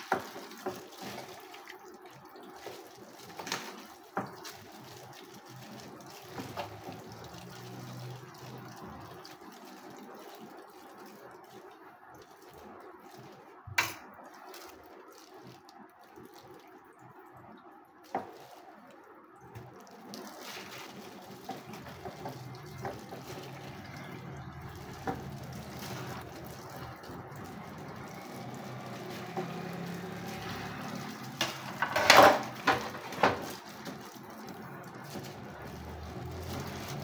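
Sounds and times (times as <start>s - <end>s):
wet squelching of chicken by hand: 0.0s - 13.6s, 14.2s - 17.4s, 18.0s - 31.8s, 32.5s - 37.0s.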